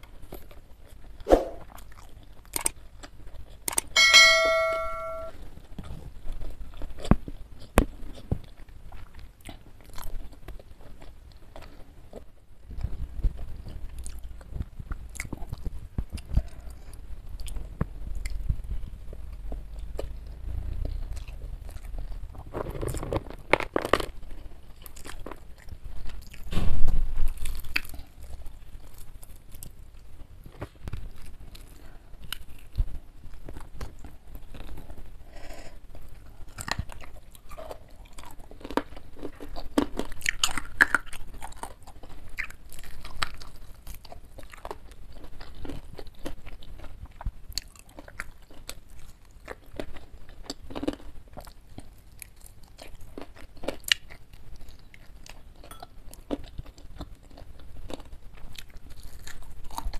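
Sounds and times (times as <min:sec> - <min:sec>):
chewing and crunching food: 0:00.0 - 0:04.0, 0:05.4 - 0:59.9.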